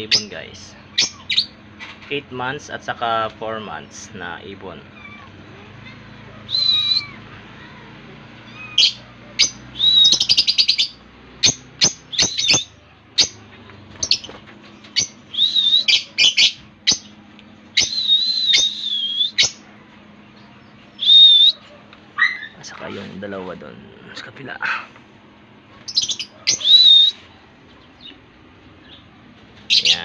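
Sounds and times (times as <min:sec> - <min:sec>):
lovebirds chirping: 0:00.0 - 0:23.6, 0:24.2 - 0:30.0.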